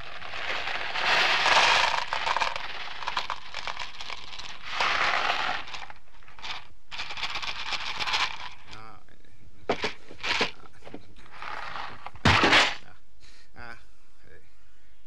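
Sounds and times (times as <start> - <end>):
crinkling crackling noise: 0.0 - 9.0, 9.7 - 12.9.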